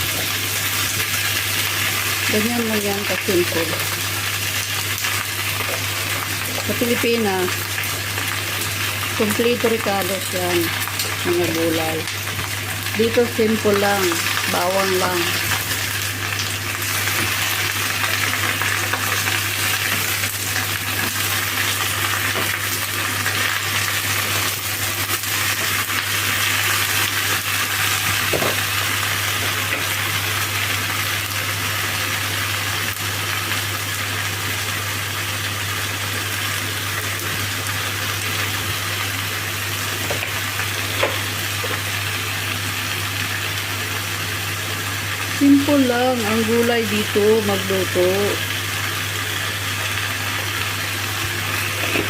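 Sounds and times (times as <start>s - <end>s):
vegetables sizzling in a hot pan: 0.0s - 52.0s.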